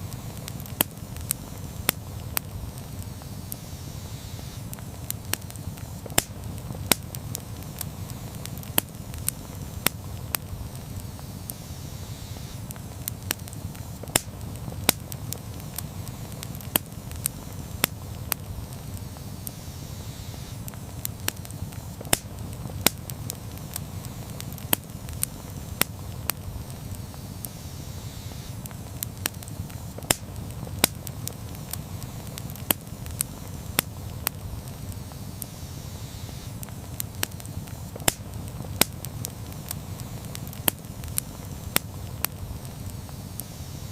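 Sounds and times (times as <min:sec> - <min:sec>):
campfire flame rumble: 0:00.0 - 0:43.9
fire crackles and pops: 0:00.0 - 0:43.9.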